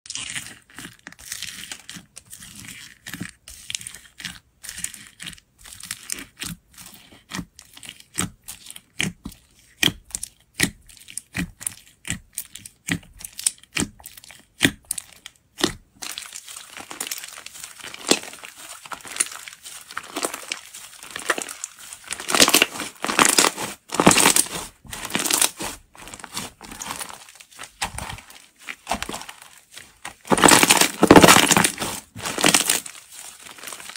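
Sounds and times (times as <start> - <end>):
slime clicking and crackling: 0.1 - 33.9.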